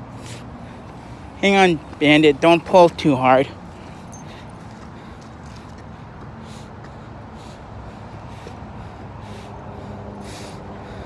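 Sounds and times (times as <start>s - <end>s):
faint engine hum: 0.0s - 11.0s
street traffic rumble: 0.0s - 11.0s.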